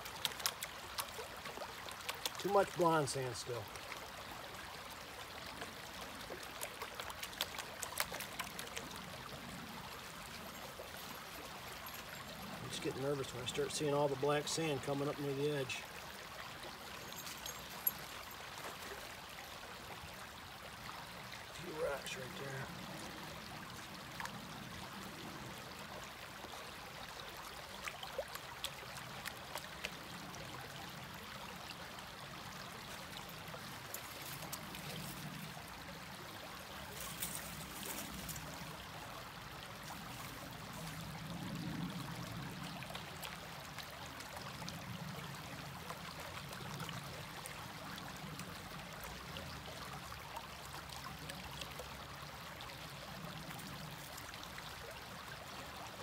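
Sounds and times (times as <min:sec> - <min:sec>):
creek water running: 0:00.0 - 0:56.0.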